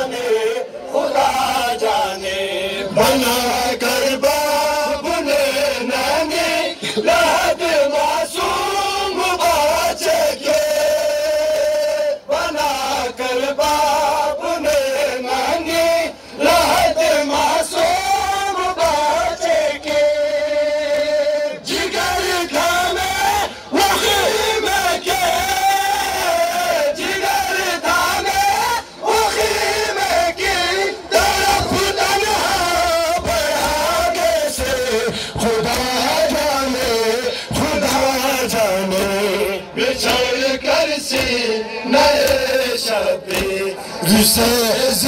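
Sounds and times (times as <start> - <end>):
men chanting a lament: 0.0 - 45.0.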